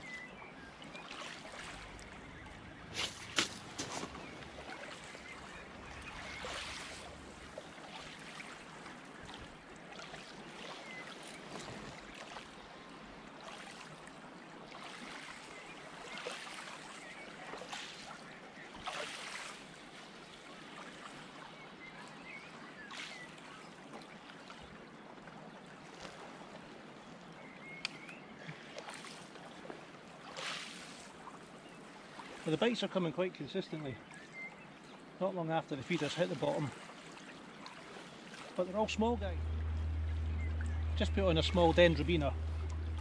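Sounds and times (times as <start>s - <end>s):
small waves lapping shore: 0.0s - 43.0s.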